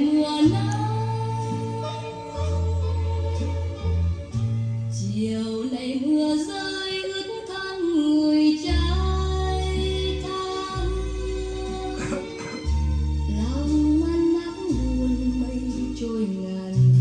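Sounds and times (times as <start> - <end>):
deep bass backing track: 0.0 - 17.0.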